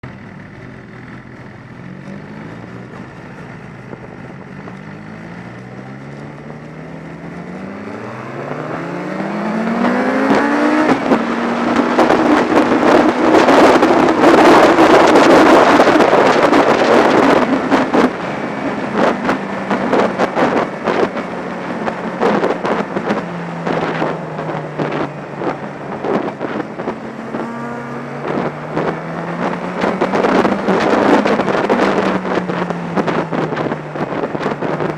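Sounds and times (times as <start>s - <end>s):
motorcycle engine accelerating: 0.0s - 34.9s
wind buffeting microphone: 2.3s - 34.9s.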